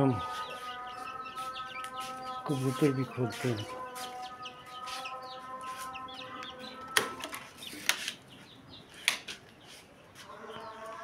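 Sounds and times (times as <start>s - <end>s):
chicks cheeping faintly: 0.0s - 11.0s.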